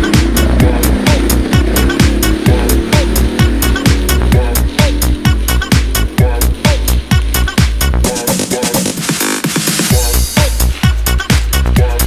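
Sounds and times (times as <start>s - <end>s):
deep bass: 0.0s - 12.0s
electronic dance music: 0.0s - 12.0s
hi-hats: 0.0s - 12.0s.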